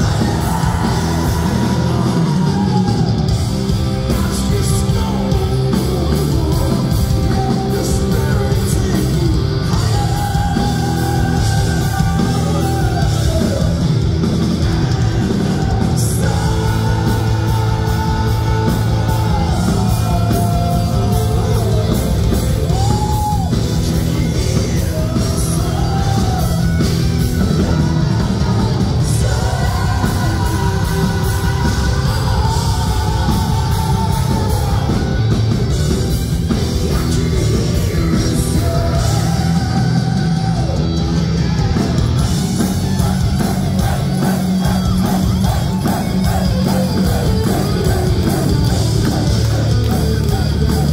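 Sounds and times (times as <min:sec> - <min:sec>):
heavy metal band playing live: 0:00.0 - 0:50.9.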